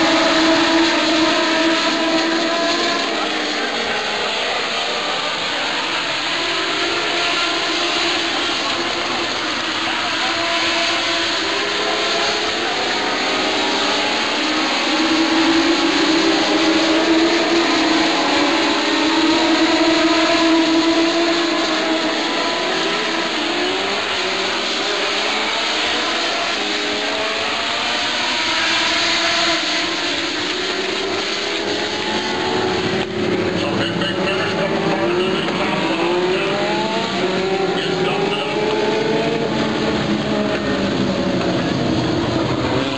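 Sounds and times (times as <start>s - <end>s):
race car engines: 0.0s - 42.9s.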